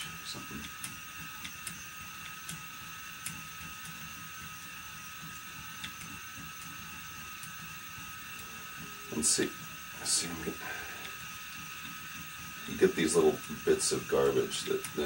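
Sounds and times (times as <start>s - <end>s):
spinning wheel motor whine: 0.0s - 15.0s.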